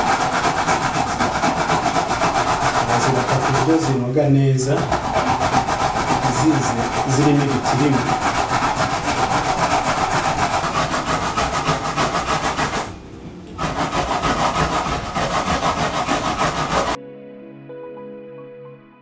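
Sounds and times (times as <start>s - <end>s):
carrots grated on plastic grater: 0.0s - 12.9s, 13.6s - 17.0s.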